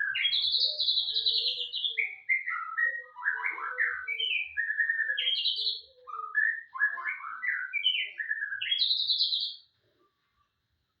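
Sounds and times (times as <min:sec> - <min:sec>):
songbird singing: 0:00.0 - 0:09.8.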